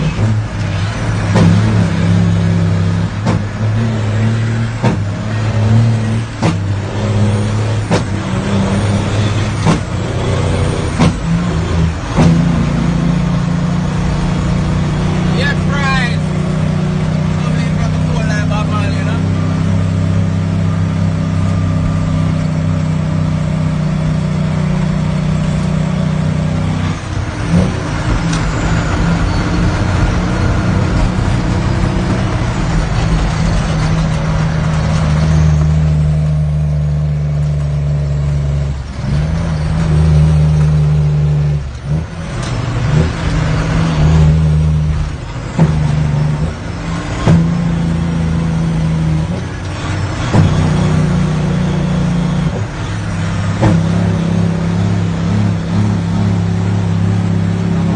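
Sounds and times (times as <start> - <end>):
diesel truck engine under load: 0.0 - 57.9.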